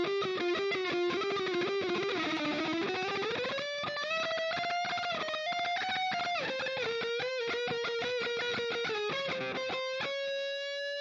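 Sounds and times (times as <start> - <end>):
distorted electric guitar lead: 0.0 - 11.0.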